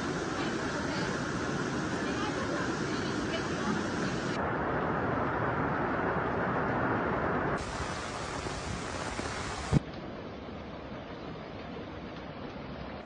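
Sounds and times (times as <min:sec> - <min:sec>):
floodwater rushing: 0:00.0 - 0:13.0
heavy rain pouring: 0:00.0 - 0:13.0.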